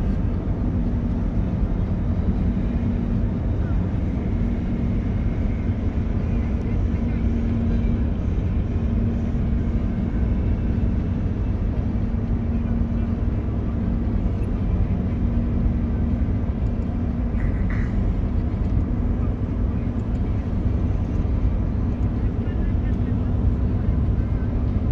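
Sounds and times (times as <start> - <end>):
vehicle engine and road noise: 0.0 - 24.9.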